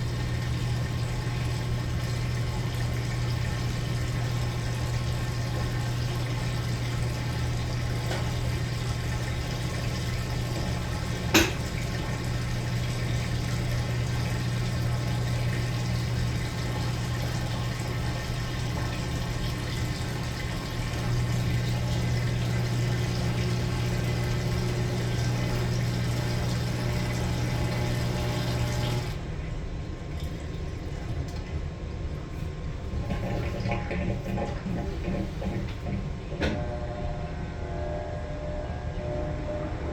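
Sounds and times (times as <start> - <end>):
water rushing into washer tub: 0.0 - 36.8
washing machine hum: 0.0 - 39.9.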